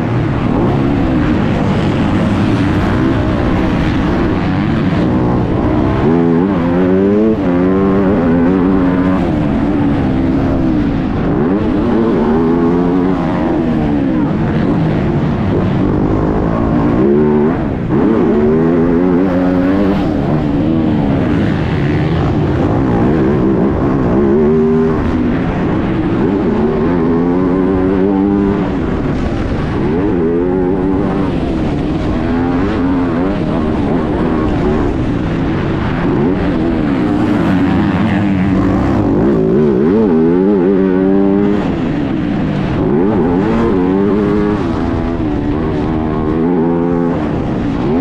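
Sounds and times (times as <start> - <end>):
motocross bike engine revving: 0.0 - 48.0
wind noise: 0.0 - 48.0.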